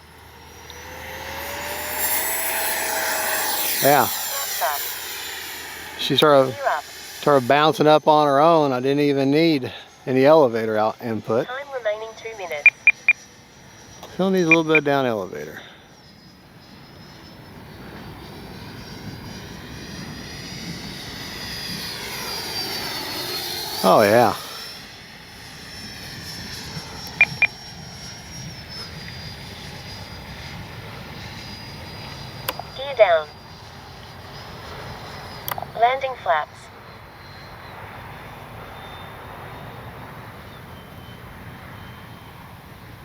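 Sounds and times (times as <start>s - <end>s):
electric jet fan whine: 0.0s - 11.4s, 12.6s - 43.0s.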